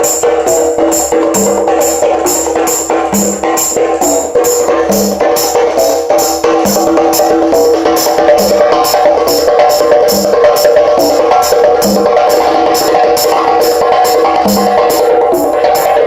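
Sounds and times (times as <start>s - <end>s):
percussion music: 0.0s - 16.0s.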